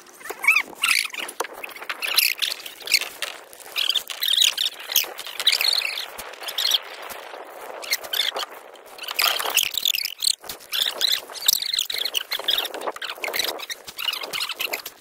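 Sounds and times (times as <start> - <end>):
birds chirping: 0.0 - 7.1, 7.8 - 14.8.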